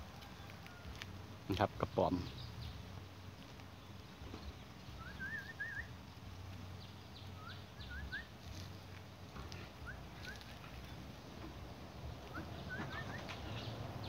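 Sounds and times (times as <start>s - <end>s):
small bird singing faintly: 0.0s - 14.0s.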